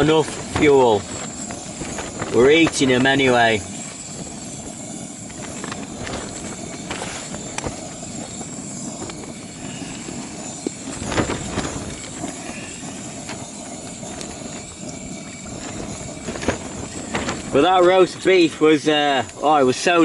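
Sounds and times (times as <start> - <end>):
camping stove roaring: 0.0 - 20.0.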